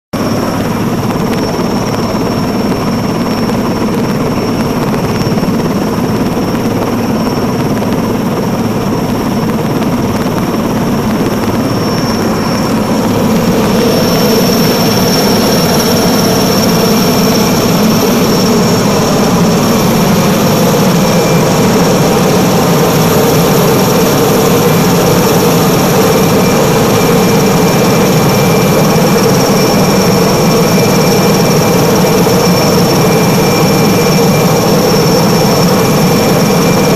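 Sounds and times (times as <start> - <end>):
helicopter engine and rotor: 0.1 - 36.9.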